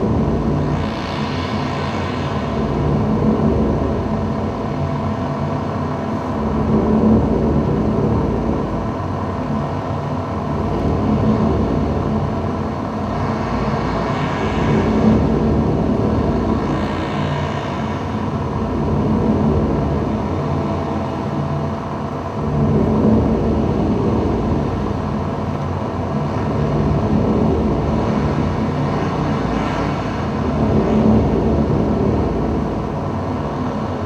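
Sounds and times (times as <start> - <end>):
ambient drone music: 0.0 - 34.0.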